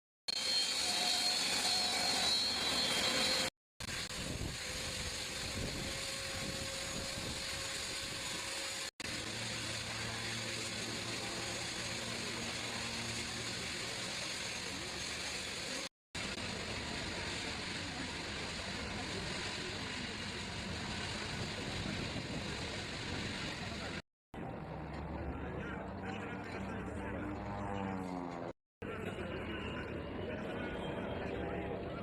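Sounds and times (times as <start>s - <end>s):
seaplane engine running: 3.8s - 32.0s.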